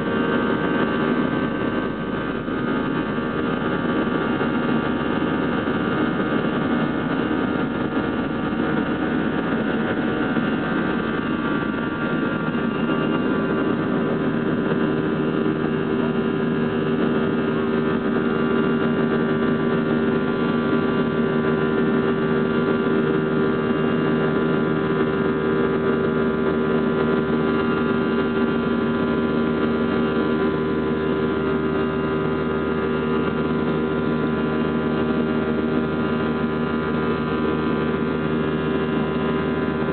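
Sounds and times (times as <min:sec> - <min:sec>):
jet engines roaring: 0:00.0 - 0:39.9
steady humming tone: 0:00.0 - 0:39.9.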